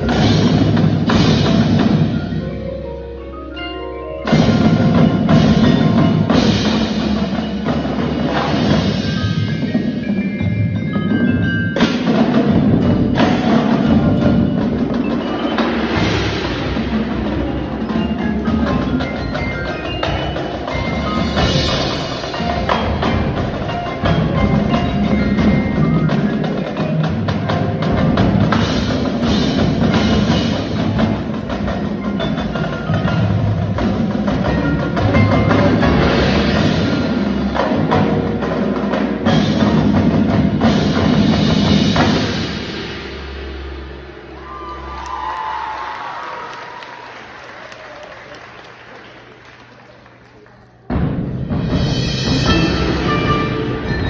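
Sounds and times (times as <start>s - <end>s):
drumline drums: 0.0s - 3.0s, 4.2s - 54.0s
marimbas and mallet percussion: 0.0s - 44.8s, 50.9s - 54.0s.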